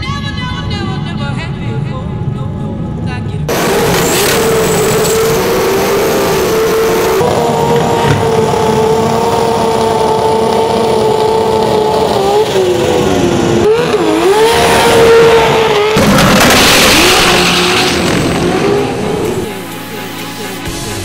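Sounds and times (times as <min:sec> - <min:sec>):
race car engine revving: 0:03.5 - 0:20.7.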